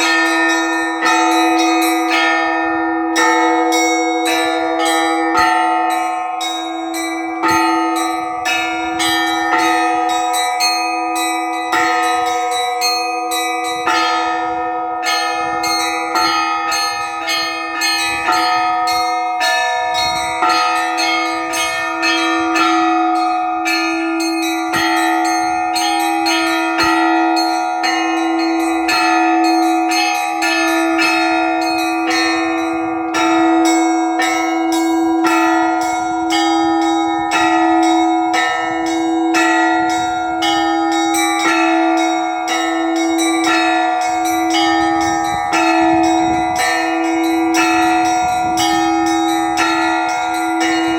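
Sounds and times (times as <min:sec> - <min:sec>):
low bell pulsing tone: 0:00.0 - 0:50.9
small church bells ringing: 0:00.0 - 0:50.9.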